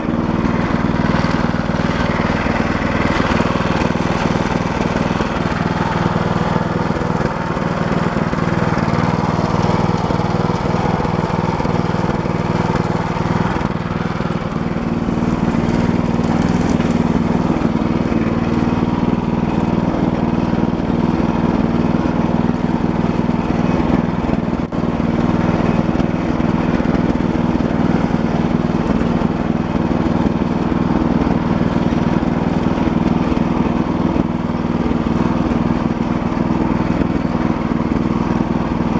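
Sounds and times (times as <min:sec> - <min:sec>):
walk-behind tractor engine running: 0:00.0 - 0:38.9.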